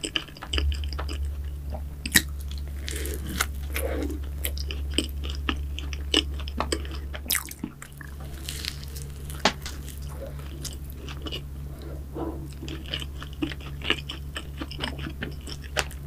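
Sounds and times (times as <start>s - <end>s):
chewing crunchy pastry: 0.0s - 16.0s
low hum: 0.0s - 16.0s.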